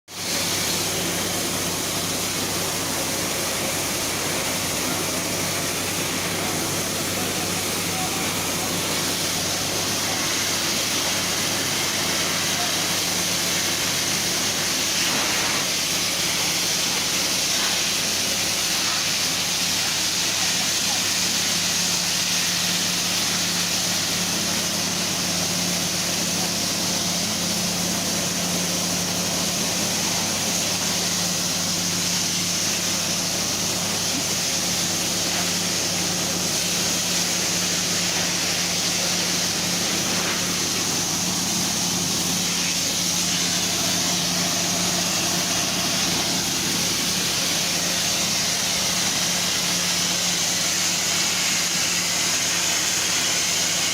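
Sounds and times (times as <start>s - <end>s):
mechanical hum with hiss: 0.1s - 53.9s.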